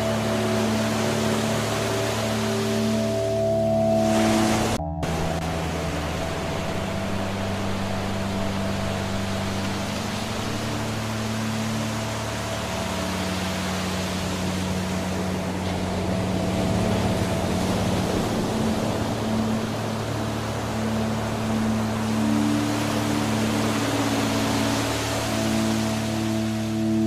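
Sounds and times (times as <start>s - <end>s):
soft low relaxation music: 0.0s - 27.0s
waterfall rushing: 0.0s - 27.0s.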